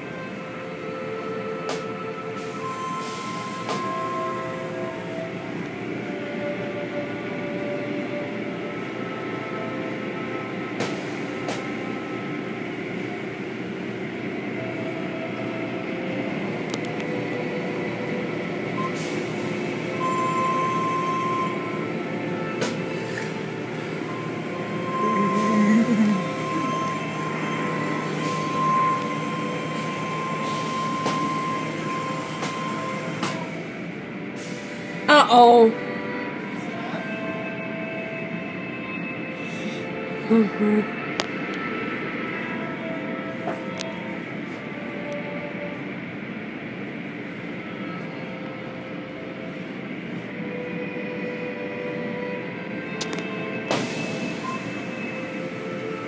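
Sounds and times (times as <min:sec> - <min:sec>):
car wash machinery whine: 0:00.0 - 0:35.1, 0:35.8 - 0:56.0.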